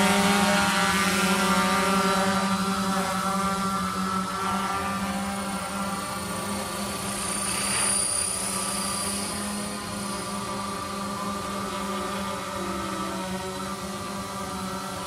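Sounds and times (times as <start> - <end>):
drone whirring: 0.0 - 15.0
high whine: 0.0 - 15.0.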